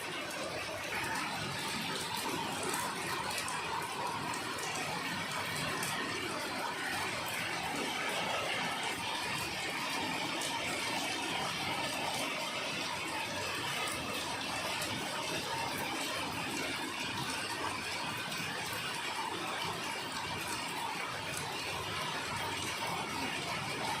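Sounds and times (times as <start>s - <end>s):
steady rain hiss: 0.1s - 24.0s.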